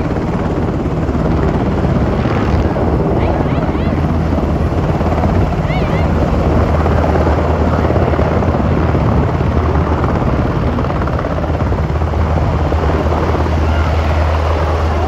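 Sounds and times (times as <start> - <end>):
helicopter lifting off: 0.0 - 15.0.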